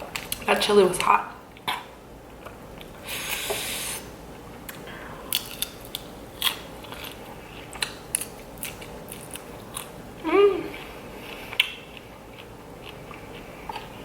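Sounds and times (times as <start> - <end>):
crunchy eating: 1.6 - 14.0.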